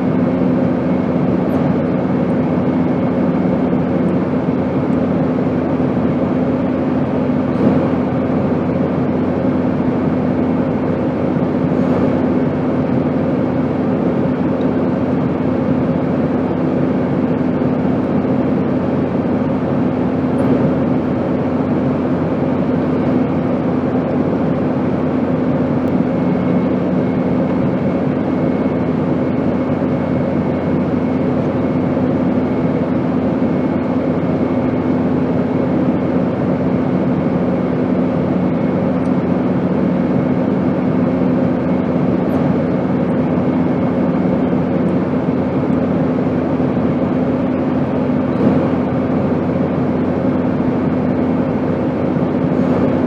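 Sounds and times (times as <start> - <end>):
airplane drone: 0.0 - 53.0.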